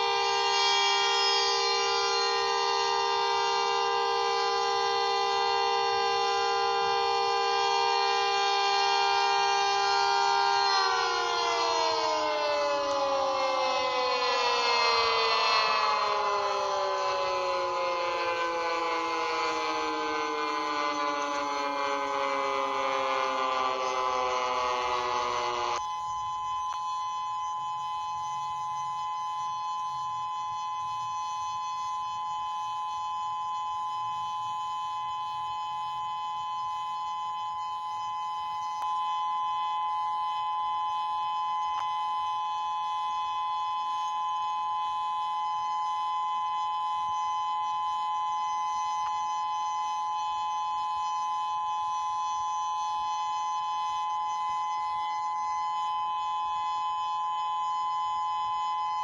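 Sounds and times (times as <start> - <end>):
dual-tone warning siren: 0.0 - 59.0.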